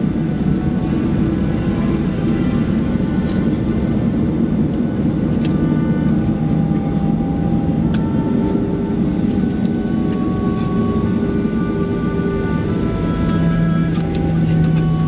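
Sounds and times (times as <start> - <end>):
faint whining tones: 0.0 - 15.0
jet engines rumbling: 0.0 - 15.0.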